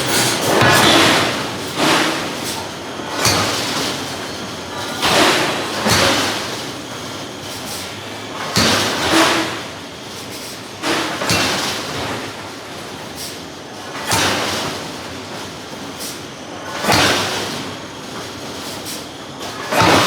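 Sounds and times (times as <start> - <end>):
forge-shop noise: 0.0 - 20.0.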